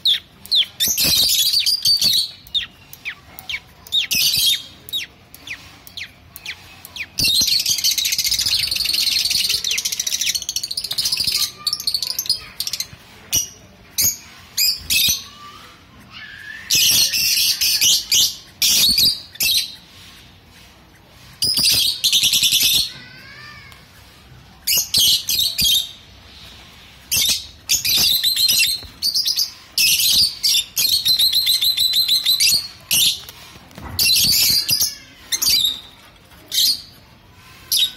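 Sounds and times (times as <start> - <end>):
lovebirds chirping and squawking: 0.0 - 37.9.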